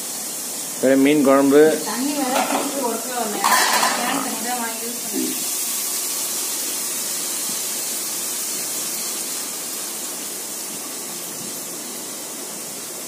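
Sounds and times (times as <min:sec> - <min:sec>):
masala sizzling in a pan: 0:00.0 - 0:13.0.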